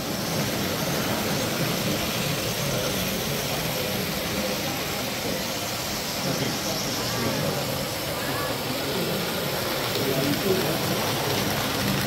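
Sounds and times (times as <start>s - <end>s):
busy exhibition hall din: 0.0s - 12.0s.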